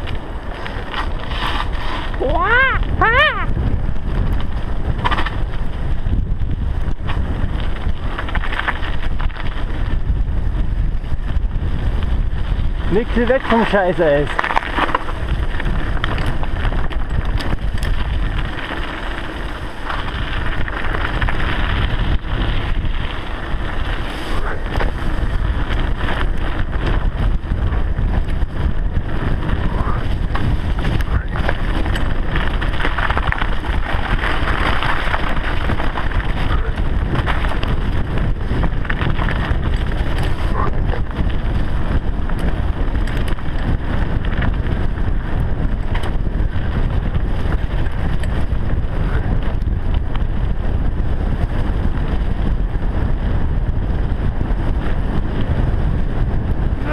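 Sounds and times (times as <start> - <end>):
bike knocks and rattles: 0.0 - 56.9
tyres rumbling on wet dirt: 0.0 - 56.9
wind on microphone: 0.0 - 56.9.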